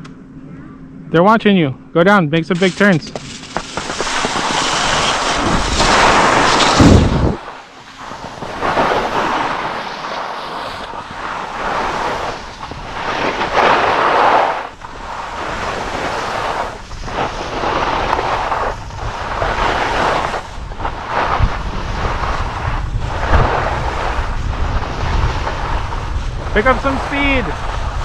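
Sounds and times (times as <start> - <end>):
skis sliding on snow: 2.5 - 28.0
wind rushing over microphone: 2.5 - 28.0.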